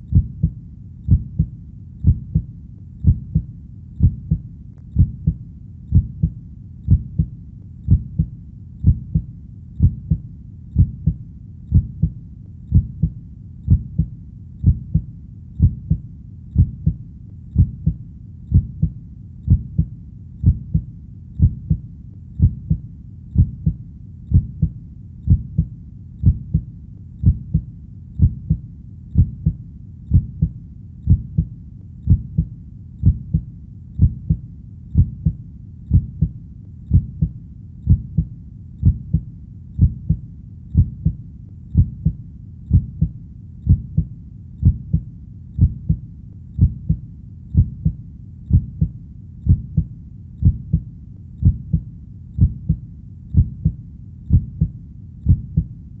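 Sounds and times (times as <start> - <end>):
heartbeat thumps: 0.0 - 55.8.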